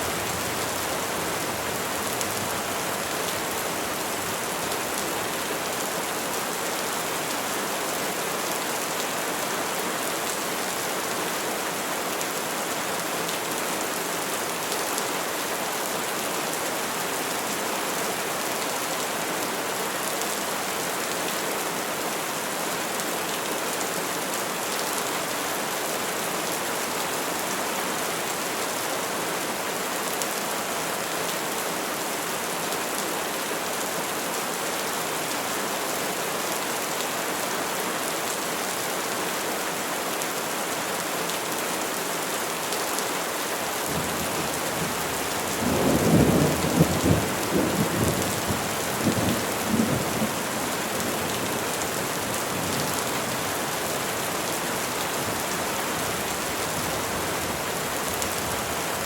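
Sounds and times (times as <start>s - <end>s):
rain falling on foliage: 0.0s - 59.0s.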